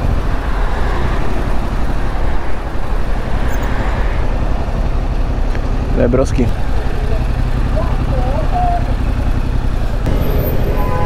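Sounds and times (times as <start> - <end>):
road and traffic noise: 0.0 - 11.0
motorcycle engine running: 1.5 - 11.0.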